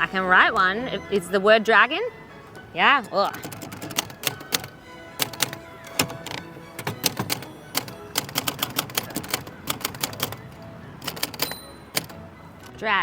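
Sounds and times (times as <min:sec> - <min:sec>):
typewriter keys clacking: 0:02.2 - 0:12.8.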